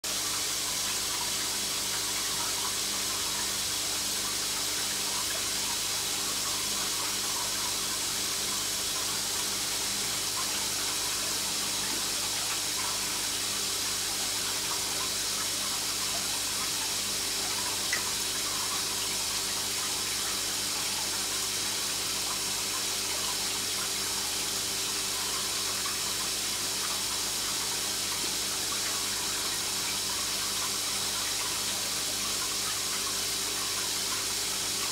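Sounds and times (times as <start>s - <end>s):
aquarium filter watery hiss: 0.0s - 34.9s.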